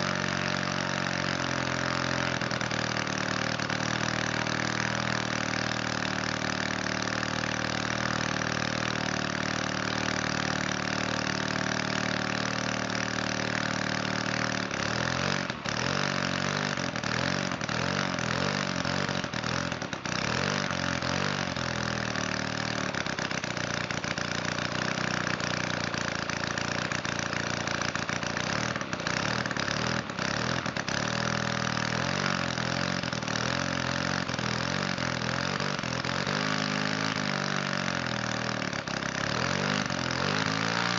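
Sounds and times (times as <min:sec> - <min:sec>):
model aircraft engine running unevenly: 0:00.0 - 0:40.9.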